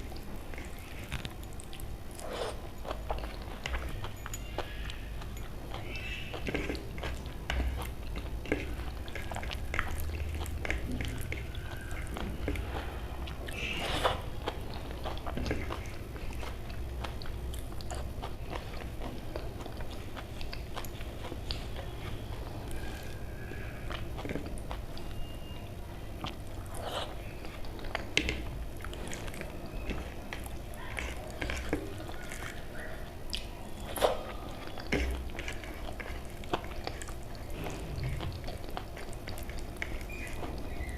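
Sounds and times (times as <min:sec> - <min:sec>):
low steady hum: 0:00.0 - 0:40.9
person chewing and lip-smacking: 0:00.0 - 0:40.9.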